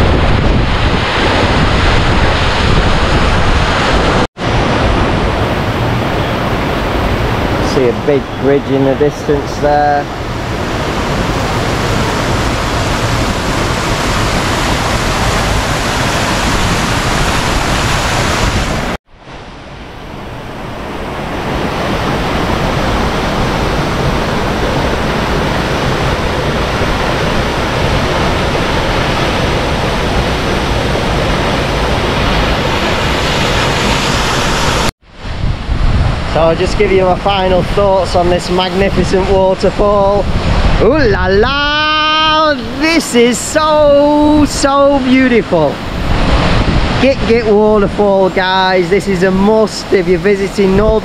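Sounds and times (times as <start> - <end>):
heavy waterfall rushing: 0.0 - 51.0.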